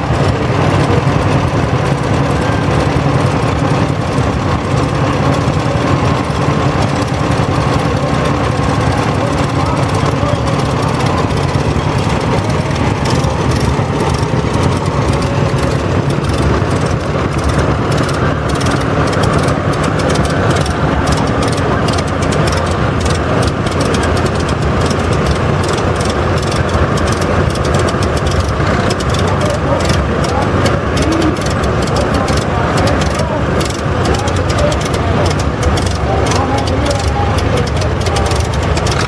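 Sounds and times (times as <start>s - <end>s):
tractor engines rumbling: 0.0s - 39.0s.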